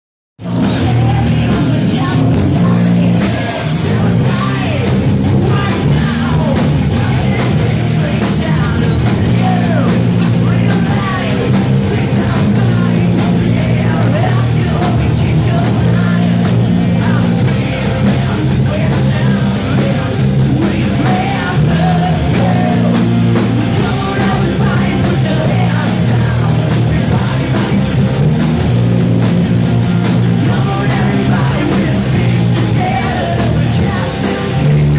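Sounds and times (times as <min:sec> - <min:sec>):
rock band with singing: 0:00.4 - 0:34.9.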